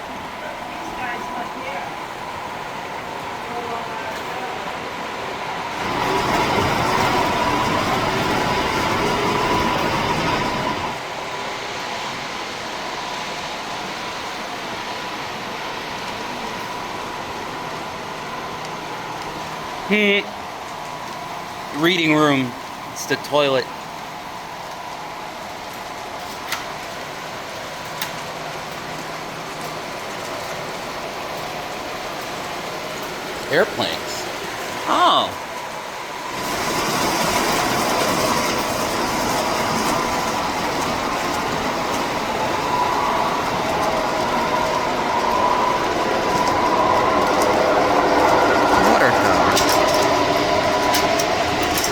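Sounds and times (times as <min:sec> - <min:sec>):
model train rolling and whirring: 0:00.0 - 0:34.8, 0:35.4 - 0:51.9.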